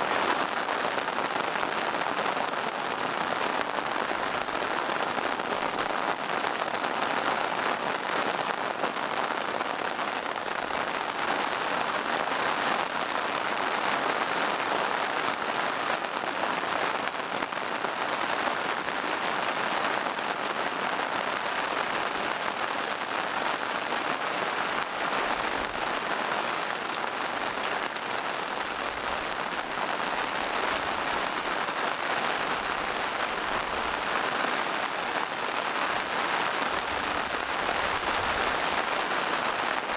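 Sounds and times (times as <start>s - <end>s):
rain on leaves and rocks: 0.0s - 39.9s.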